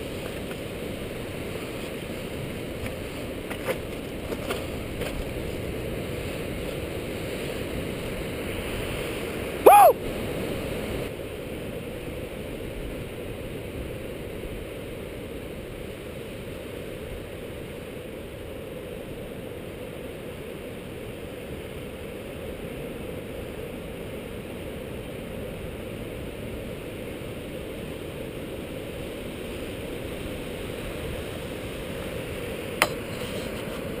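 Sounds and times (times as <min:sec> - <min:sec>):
sea surf: 0:00.0 - 0:34.0
wind: 0:00.0 - 0:34.0.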